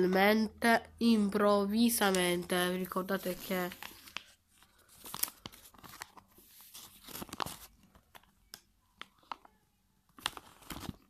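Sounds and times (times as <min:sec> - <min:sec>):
plastic toy and wrapper crinkling: 0:01.8 - 0:11.0.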